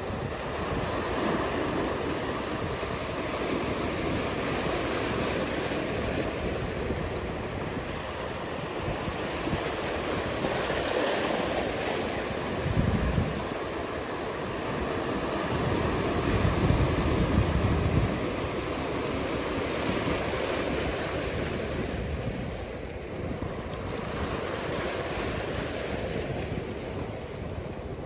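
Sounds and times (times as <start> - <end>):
low rumble of wind gust: 0.0 - 28.0
ocean surf breaking: 0.0 - 28.0
wind on microphone: 0.0 - 28.0.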